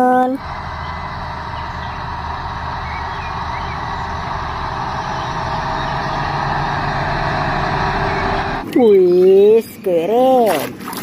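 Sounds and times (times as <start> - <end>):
tractor diesel engines under load: 0.0 - 10.8.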